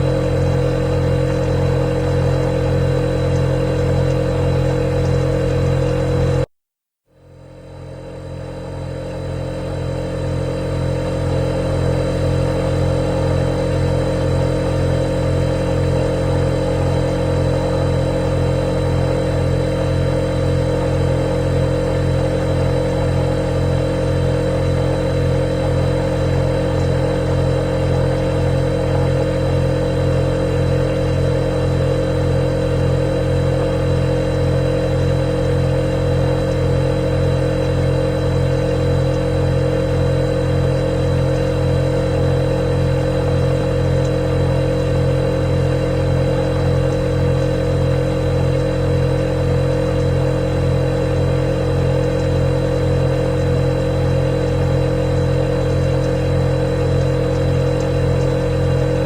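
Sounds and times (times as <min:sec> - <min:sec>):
refrigerator humming: 0:00.0 - 0:06.5, 0:07.2 - 0:59.0.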